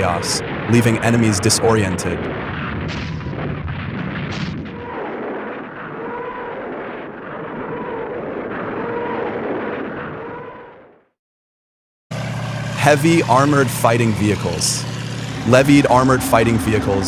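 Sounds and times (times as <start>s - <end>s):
rockets rushing roar: 0.0s - 10.7s, 12.1s - 17.0s
eerie rocket screech: 2.0s - 10.8s, 12.1s - 17.0s.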